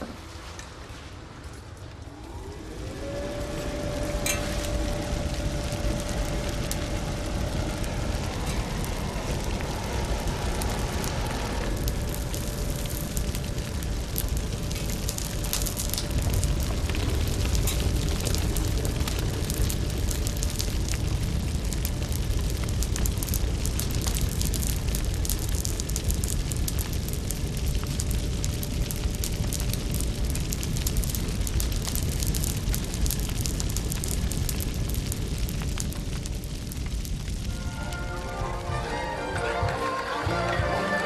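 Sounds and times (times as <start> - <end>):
open fire roaring and crackling: 0.0 - 41.0.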